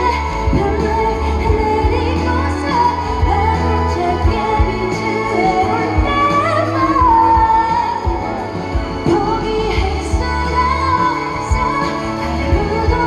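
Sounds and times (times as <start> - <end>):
amplified band accompaniment: 0.0 - 13.0
steady low bass: 0.0 - 13.0
woman singing pop ballad: 0.0 - 13.0.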